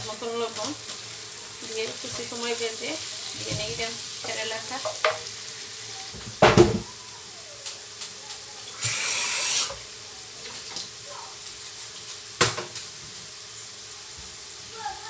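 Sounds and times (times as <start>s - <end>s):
hiss at the stove: 0.0s - 15.0s.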